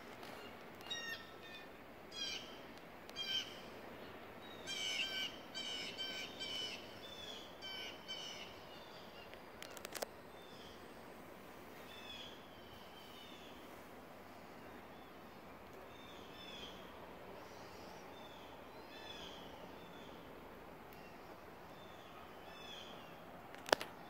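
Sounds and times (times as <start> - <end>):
faint background noise: 0.0 - 24.0.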